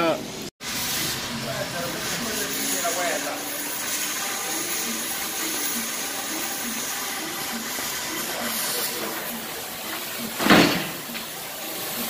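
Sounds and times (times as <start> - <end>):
steady hiss: 0.6 - 12.0.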